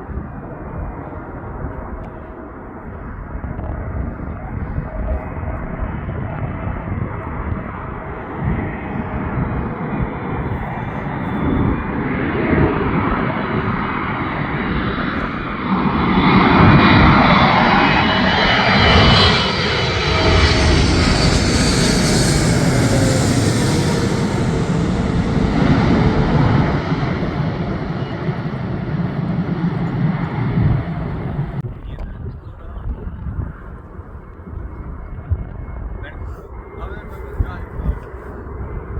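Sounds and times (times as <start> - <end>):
airplane engines passing: 0.0 - 38.9.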